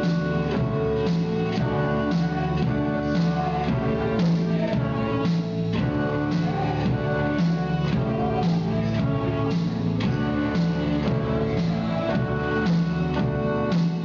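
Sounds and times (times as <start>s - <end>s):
electronic keyboards: 0.0s - 14.0s
moving bass line: 0.0s - 14.0s
steady beat: 0.0s - 14.0s.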